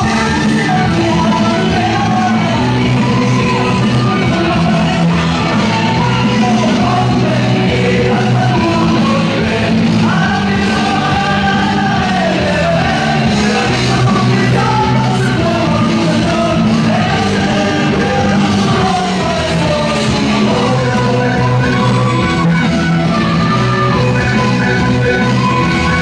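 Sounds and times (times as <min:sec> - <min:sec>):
loud dance music with vocals: 0:00.0 - 0:26.0.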